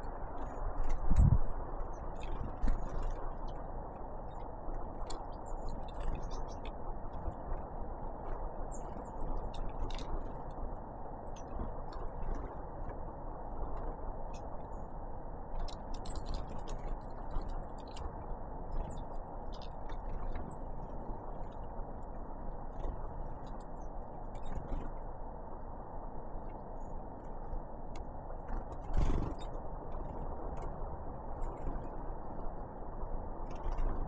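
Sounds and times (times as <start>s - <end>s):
birds pecking at seeds: 0.3s - 13.0s, 13.6s - 25.1s, 26.4s - 30.7s.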